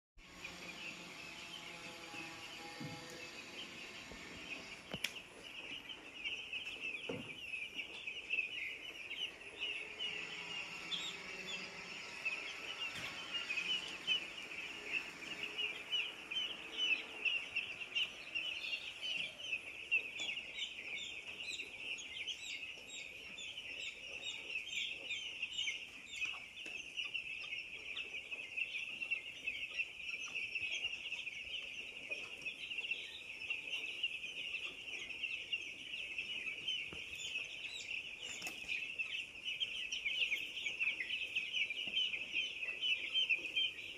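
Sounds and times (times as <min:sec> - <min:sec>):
chickens peeping and cheeping: 0:00.2 - 0:43.9.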